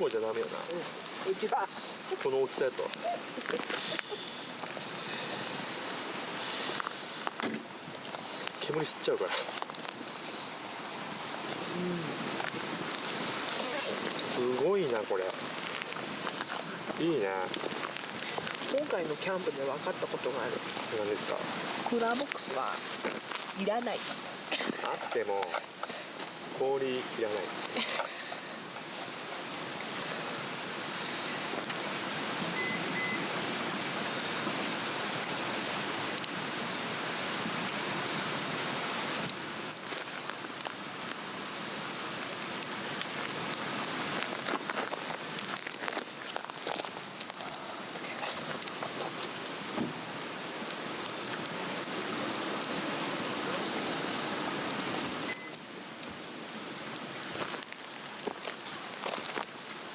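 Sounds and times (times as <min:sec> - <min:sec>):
fire crackles: 0:00.0 - 0:59.9
fire hissing in wind: 0:00.0 - 0:59.9.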